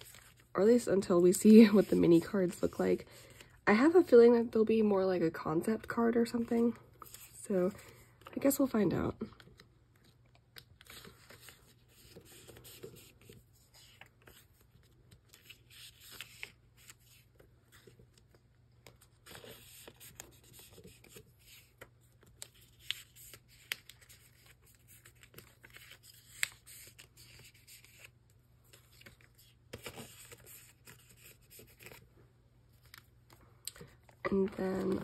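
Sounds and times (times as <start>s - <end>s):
plastic binder pages rustling: 0.0s - 3.5s, 9.3s - 35.0s.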